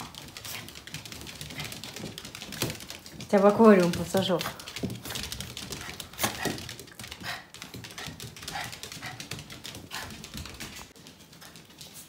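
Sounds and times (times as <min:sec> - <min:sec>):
dog claws clicking on laminate floor: 0:00.0 - 0:12.0.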